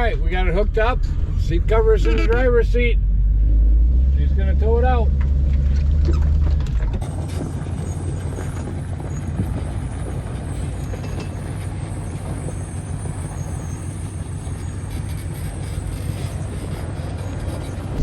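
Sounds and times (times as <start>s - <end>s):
truck engine droning under load: 0.0s - 18.0s.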